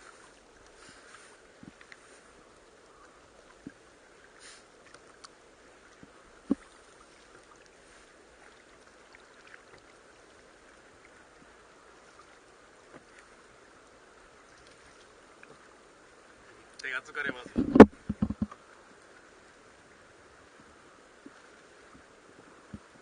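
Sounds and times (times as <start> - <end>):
faint wash of water: 0.0 - 23.0.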